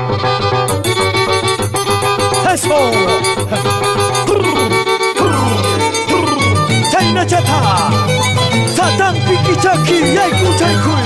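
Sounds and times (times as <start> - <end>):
repeating bass line: 0.0 - 11.0
violin playing ornamented phrases: 0.0 - 11.0.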